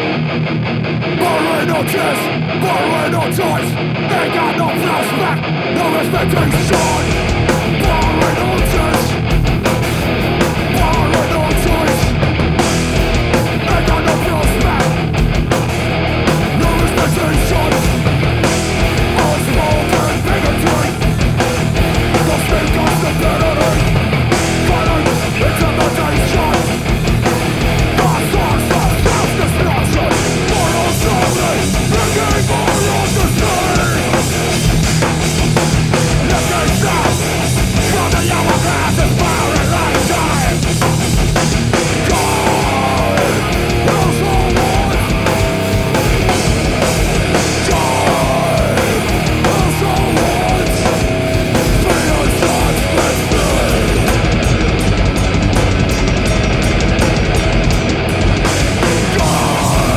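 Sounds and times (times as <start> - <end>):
bass guitar: 0.0 - 59.9
drums: 0.0 - 59.9
electric guitar: 0.0 - 59.9.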